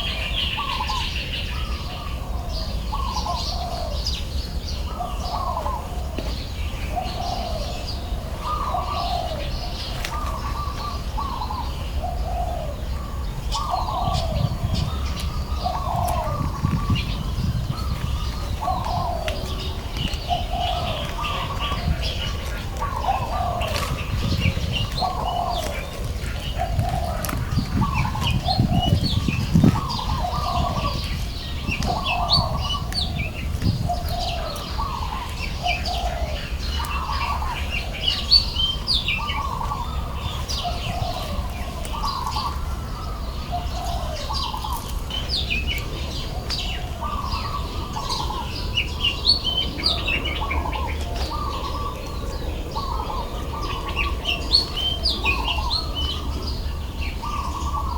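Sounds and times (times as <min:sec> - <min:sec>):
bird calling: 0:00.0 - 0:57.9.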